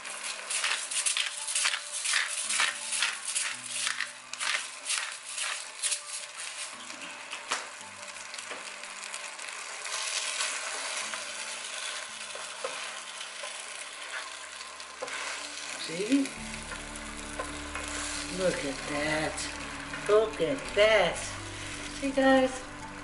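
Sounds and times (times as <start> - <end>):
food sizzling in a frying pan: 0.0 - 23.0
utensils stirring and tossing food: 0.0 - 23.0.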